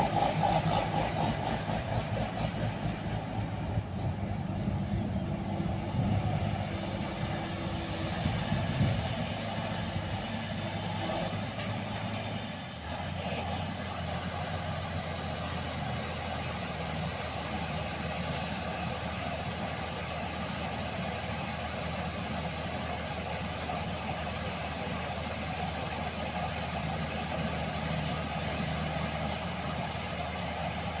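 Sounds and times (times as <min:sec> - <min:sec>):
combine harvester engine running: 0:00.0 - 0:31.0.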